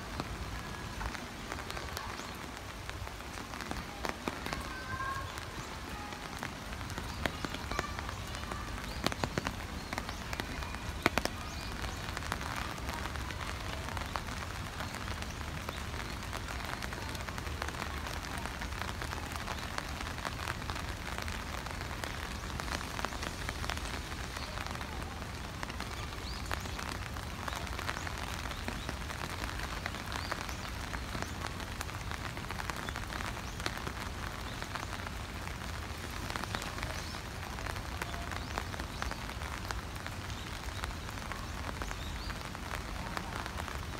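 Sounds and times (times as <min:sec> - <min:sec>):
rain on wet concrete: 0:00.0 - 0:43.9.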